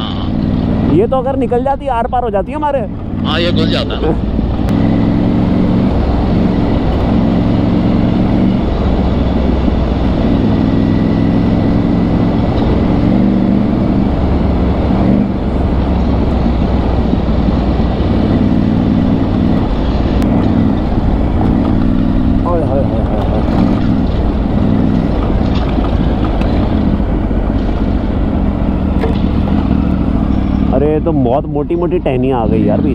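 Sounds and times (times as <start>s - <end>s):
wind and riding noise: 0.0s - 32.9s
motorcycle engine running: 2.9s - 31.5s.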